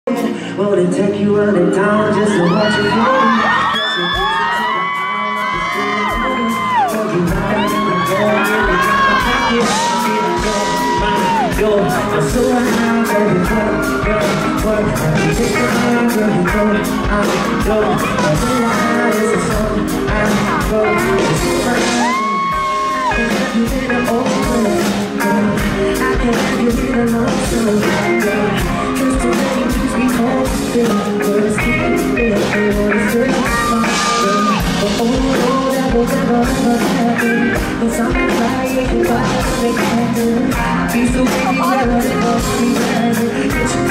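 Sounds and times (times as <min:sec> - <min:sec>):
loud amplified music: 0:00.0 - 0:43.9
man singing into microphone: 0:00.0 - 0:43.9.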